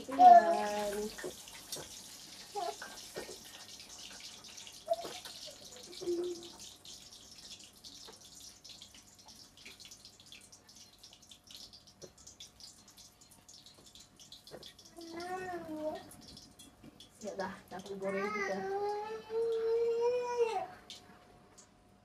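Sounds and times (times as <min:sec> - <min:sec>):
oil sizzling and crackling: 0:00.0 - 0:19.9.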